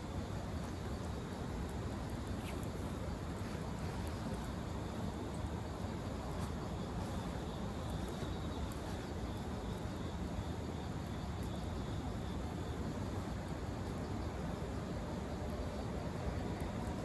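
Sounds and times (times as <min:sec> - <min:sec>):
faint fire crackles: 0:00.0 - 0:17.0
fire low rumble: 0:00.0 - 0:17.0.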